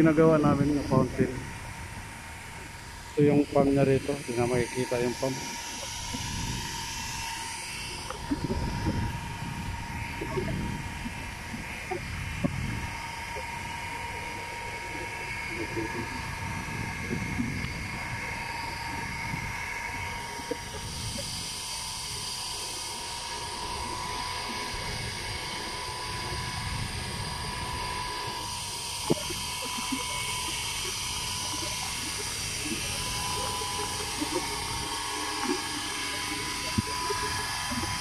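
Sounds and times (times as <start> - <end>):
wind on microphone: 0.0 - 22.5, 23.5 - 38.0
fountain pump whine: 0.0 - 38.0
water jet rumble: 0.0 - 38.0.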